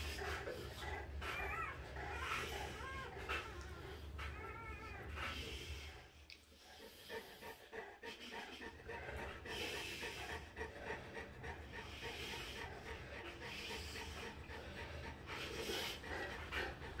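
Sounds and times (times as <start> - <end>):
puppy breathing quickly: 0.0 - 17.0.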